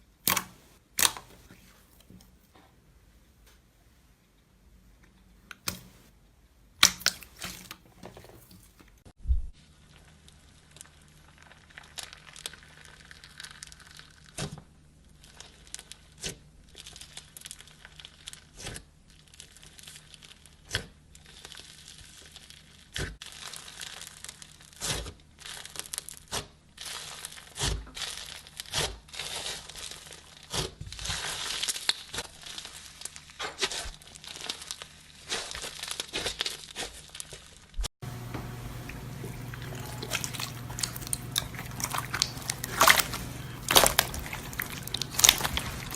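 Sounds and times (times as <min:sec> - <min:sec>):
slime crackling and popping: 0:00.2 - 0:02.2, 0:06.8 - 0:09.0, 0:09.7 - 0:37.9, 0:38.5 - 0:45.9.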